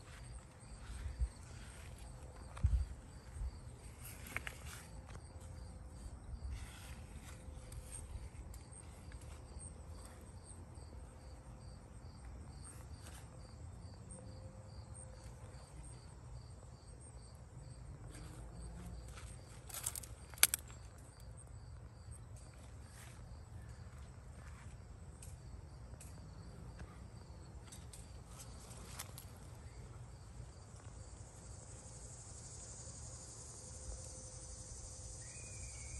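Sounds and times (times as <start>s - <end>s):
insect chirping: 0.0s - 35.9s.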